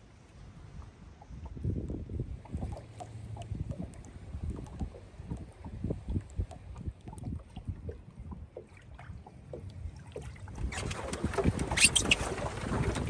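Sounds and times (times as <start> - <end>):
wind on microphone: 0.0 - 13.0
wavelets lapping against hull: 0.2 - 13.0.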